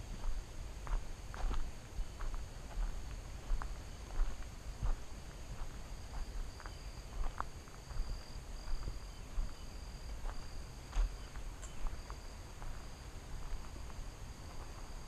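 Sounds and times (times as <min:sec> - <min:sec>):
footsteps on a trail: 0:00.0 - 0:15.0
insects trilling: 0:00.1 - 0:15.0.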